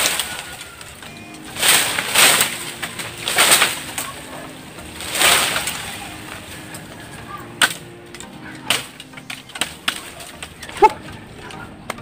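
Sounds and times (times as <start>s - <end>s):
leaves and branches rustling: 0.0s - 12.0s.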